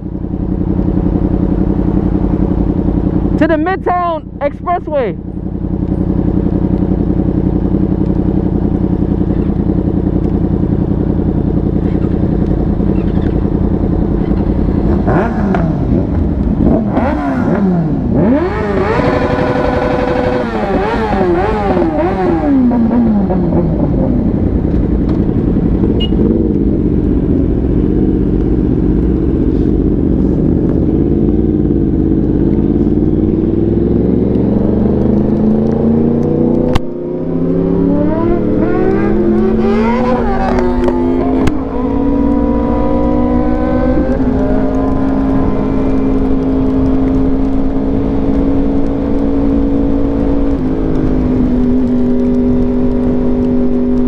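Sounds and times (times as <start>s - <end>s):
exhaust crack: 0.0s - 54.0s
motorcycle engine at speed: 0.0s - 54.0s.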